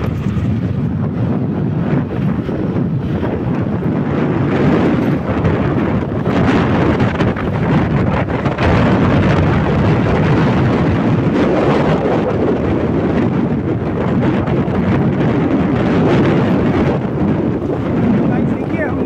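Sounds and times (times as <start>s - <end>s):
vehicle tyres on road: 0.0s - 19.0s
wind buffeting microphone: 0.0s - 19.0s.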